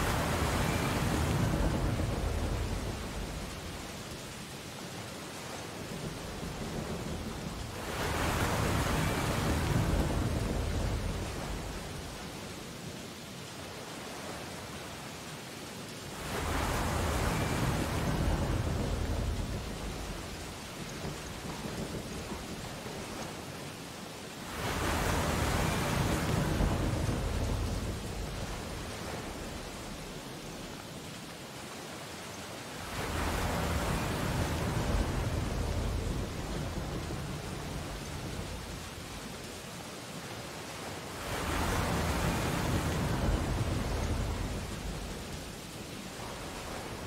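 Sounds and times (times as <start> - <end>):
waves breaking on shore: 0.0 - 47.0.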